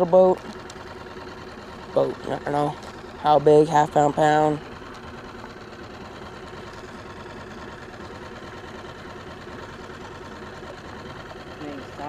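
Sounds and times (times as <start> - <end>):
outboard motor putter: 0.0 - 12.0.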